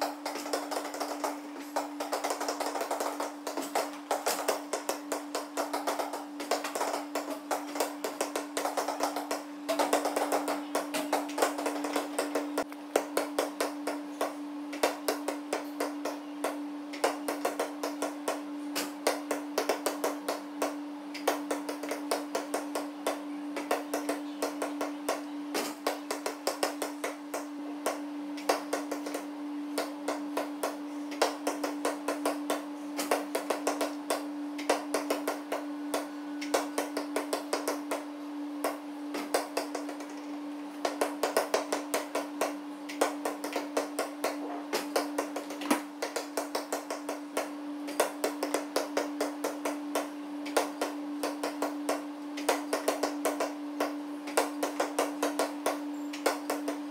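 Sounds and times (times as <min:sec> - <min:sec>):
electrical hum: 0:00.0 - 0:56.9
basketball bouncing on gym floor: 0:00.2 - 0:29.2, 0:29.8 - 0:40.1, 0:40.8 - 0:56.8.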